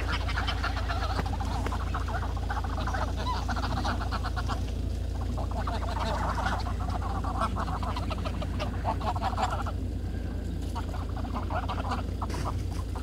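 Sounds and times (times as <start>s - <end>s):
geese honking and cackling: 0.0s - 13.0s
steady low rumble: 0.0s - 13.0s.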